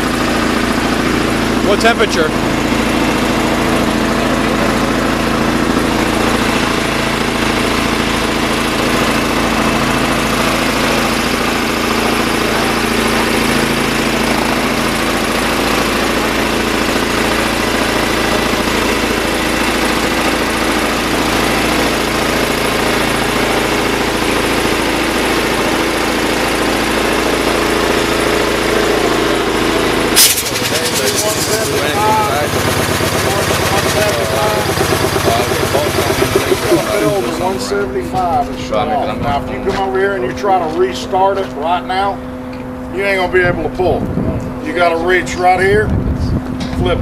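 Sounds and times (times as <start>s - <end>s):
air compressor running: 0.0s - 47.0s.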